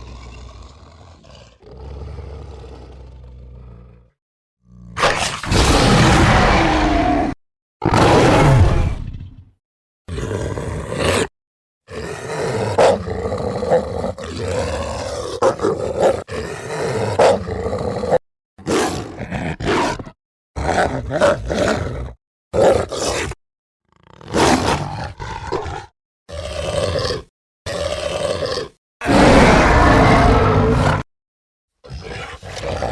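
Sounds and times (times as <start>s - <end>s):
creature roars and growls: 0.0s - 11.3s, 11.9s - 23.4s, 24.0s - 31.1s, 31.9s - 32.9s.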